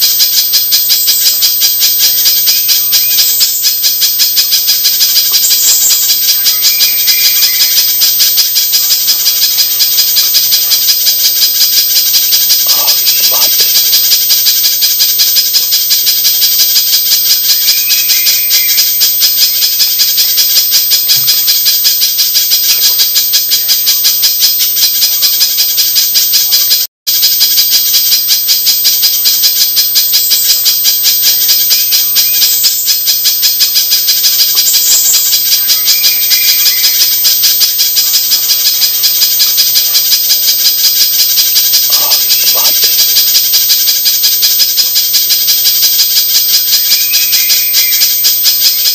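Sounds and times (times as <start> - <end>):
recorded bird call rattling: 0.0 - 48.9.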